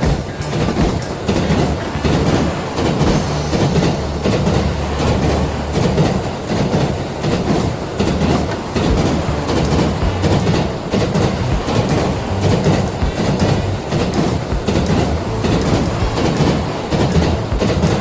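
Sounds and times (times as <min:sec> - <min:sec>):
train running on rails: 0:00.0 - 0:18.0.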